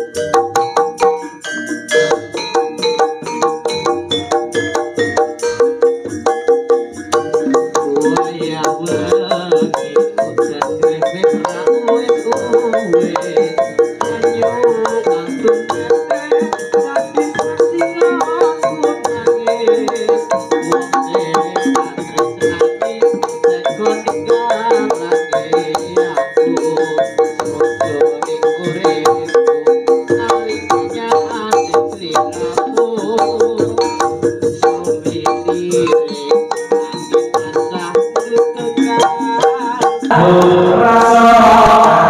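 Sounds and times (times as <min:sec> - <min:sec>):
hand drum beating: 0:00.0 - 0:42.0
metallophones and gongs ringing: 0:00.0 - 0:42.0.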